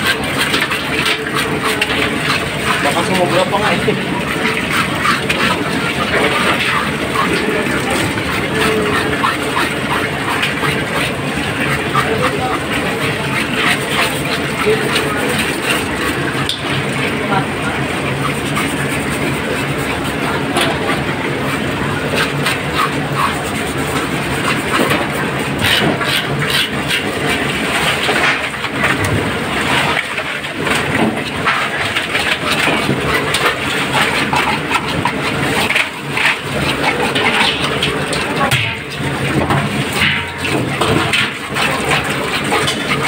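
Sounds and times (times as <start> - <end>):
engine running: 0.0 - 43.0.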